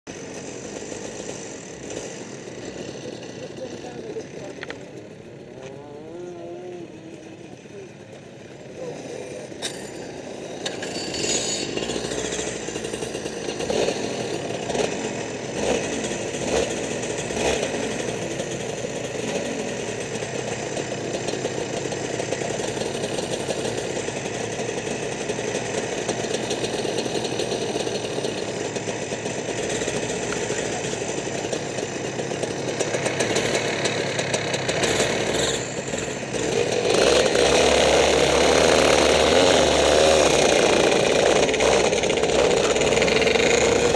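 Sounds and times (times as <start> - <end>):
kart engines buzzing: 0.1 - 43.9.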